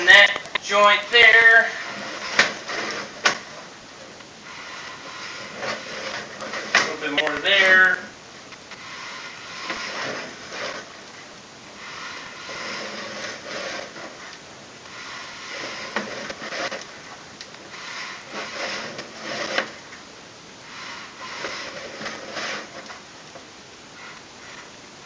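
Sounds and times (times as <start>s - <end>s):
cable rubbing and rattling: 0.0s - 25.0s.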